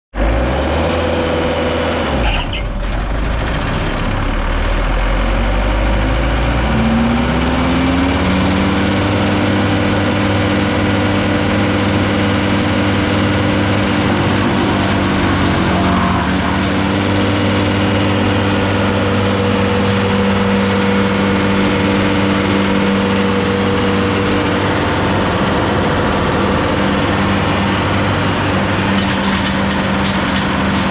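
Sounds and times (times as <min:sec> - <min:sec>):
wood chipper engine running: 0:00.2 - 0:30.9.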